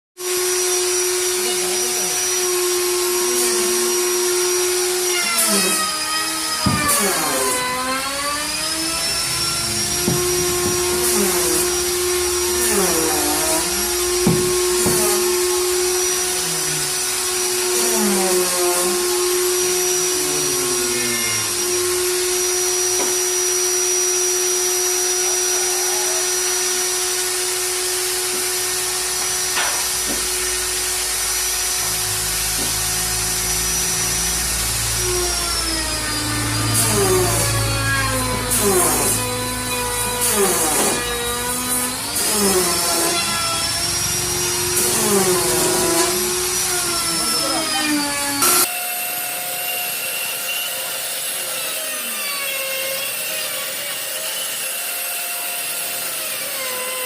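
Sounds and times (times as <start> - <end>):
angle grinder motor running: 0.2 - 57.0.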